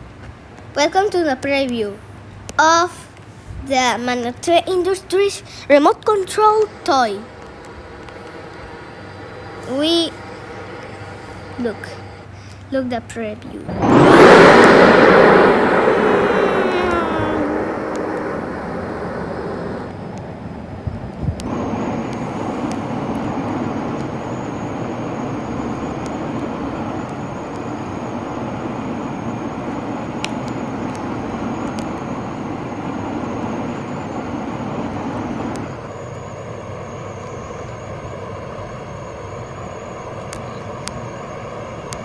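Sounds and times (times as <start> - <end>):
faint high whine: 0.7 - 42.0
engine-like drone: 4.0 - 42.0.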